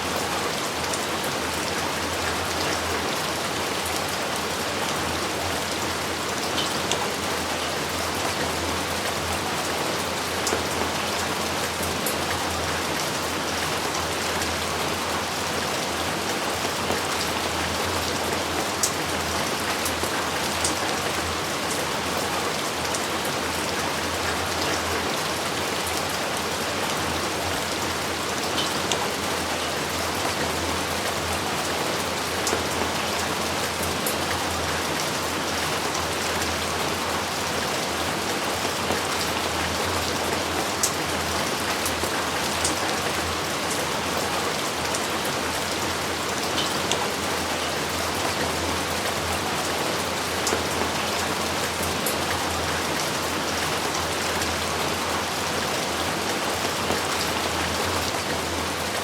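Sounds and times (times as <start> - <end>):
heavy rain: 0.0 - 59.0
individual raindrops close up: 0.0 - 59.0.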